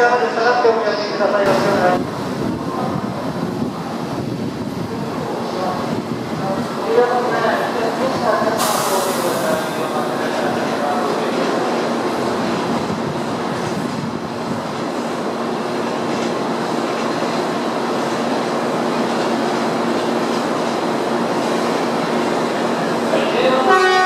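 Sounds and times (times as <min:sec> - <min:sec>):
train running noise: 0:01.2 - 0:24.0.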